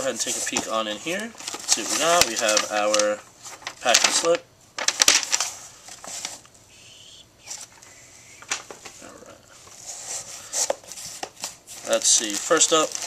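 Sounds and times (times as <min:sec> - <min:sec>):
packaging rustling: 0:00.0 - 0:06.5, 0:07.4 - 0:13.0.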